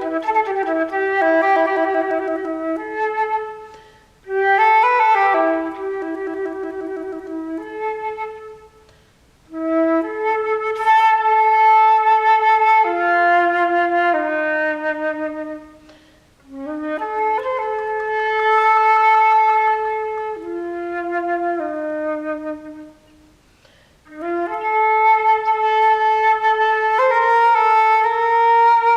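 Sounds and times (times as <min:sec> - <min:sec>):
solo flute playing slow notes: 0:00.0 - 0:28.9.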